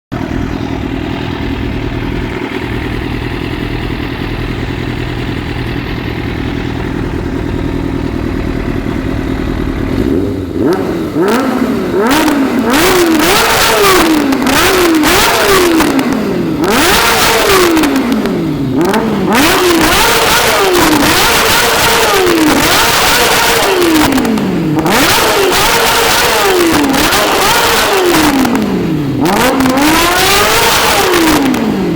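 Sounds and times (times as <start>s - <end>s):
motorcycle engine revving: 0.1s - 31.9s.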